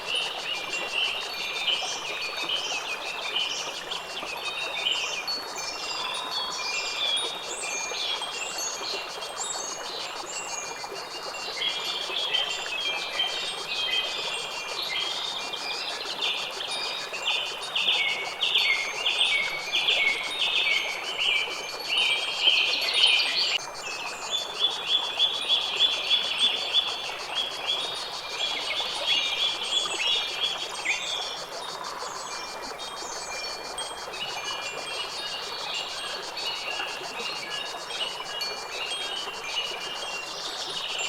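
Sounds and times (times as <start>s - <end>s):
high insect trill: 0.0s - 41.0s.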